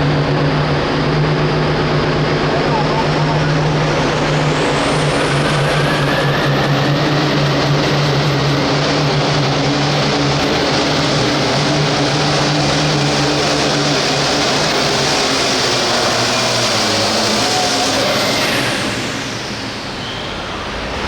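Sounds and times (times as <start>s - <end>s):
diesel tractor engine revving high: 0.0s - 21.0s
turbo whine: 0.0s - 21.0s.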